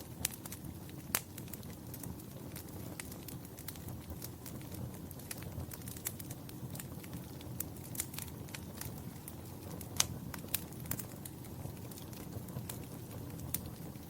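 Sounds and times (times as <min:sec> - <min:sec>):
fire crackling and popping: 0:00.0 - 0:14.0
low rumble of fire: 0:00.0 - 0:14.0.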